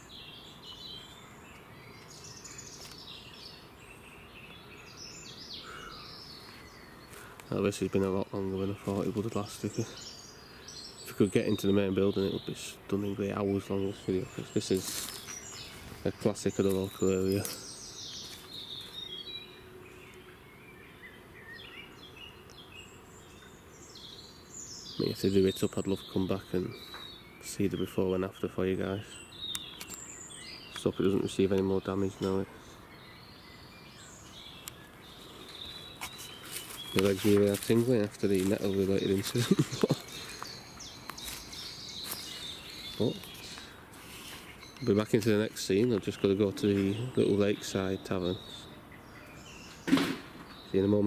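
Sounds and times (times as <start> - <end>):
birds chirping and singing: 0.0 - 51.0
faint background noise: 0.0 - 51.0
steady background hiss: 0.0 - 51.0.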